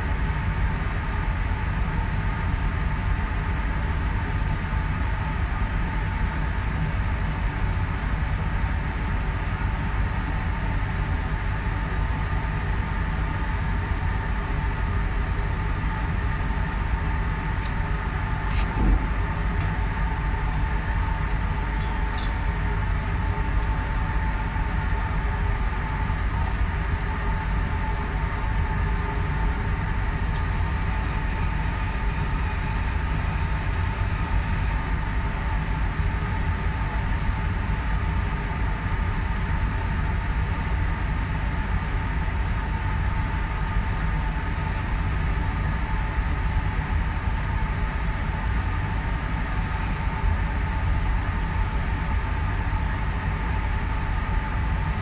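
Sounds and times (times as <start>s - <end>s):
constant hum: 0.0s - 55.0s
low machine rumble: 0.0s - 55.0s.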